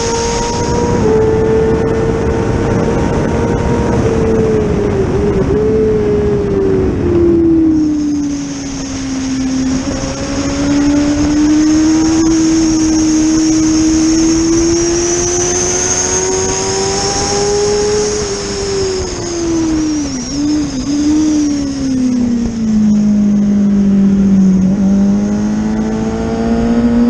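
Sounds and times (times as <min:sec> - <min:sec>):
racing motorcycle engine: 0:00.0 - 0:27.0
wind noise: 0:00.0 - 0:27.0.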